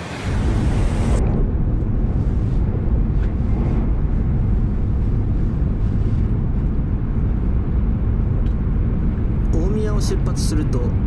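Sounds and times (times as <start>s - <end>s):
train rumbling in motion: 0.0s - 11.0s.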